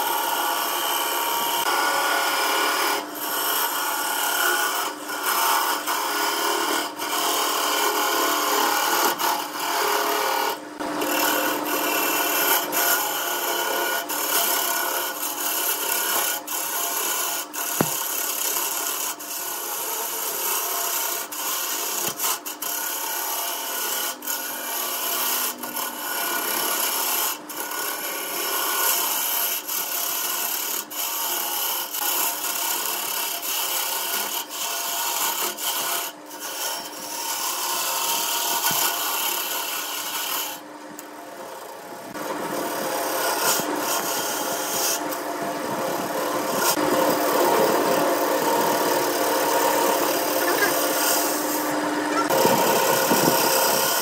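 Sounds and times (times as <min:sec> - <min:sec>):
gouge shaving wood on lathe: 0:00.0 - 0:40.6, 0:41.5 - 0:54.0.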